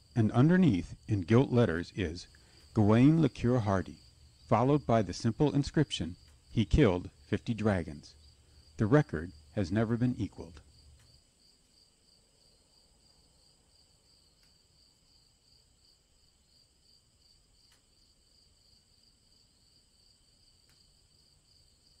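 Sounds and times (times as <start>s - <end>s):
faint crickets chirping: 0.0s - 22.0s.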